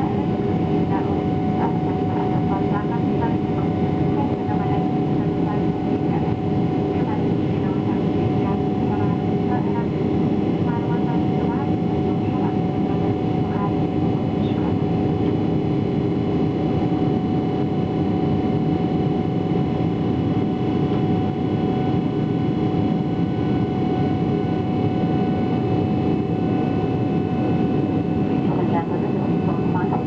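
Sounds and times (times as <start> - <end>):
jet engine roar in cabin: 0.0 - 30.0.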